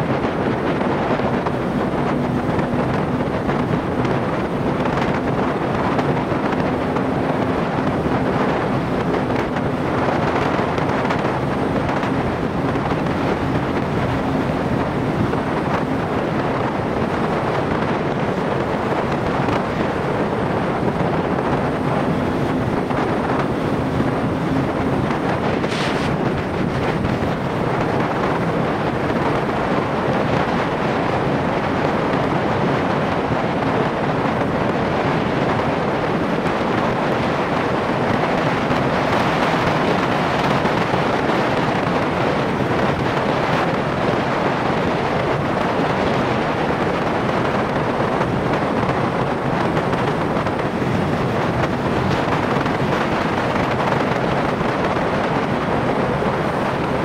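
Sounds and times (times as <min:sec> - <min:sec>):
road noise: 0:00.0 - 0:57.0
wind noise on microphone: 0:00.0 - 0:57.0.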